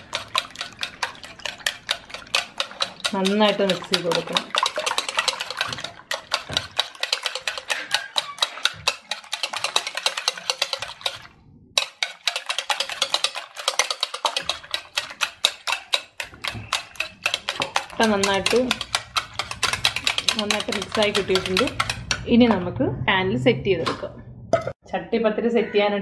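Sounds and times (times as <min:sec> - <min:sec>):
whisk beating eggs in bowl: 0:00.0 - 0:22.6.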